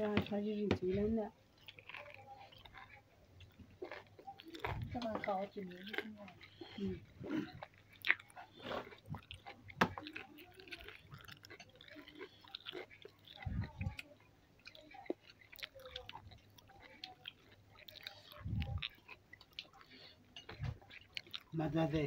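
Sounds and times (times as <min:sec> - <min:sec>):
chewing: 0:00.0 - 0:22.0.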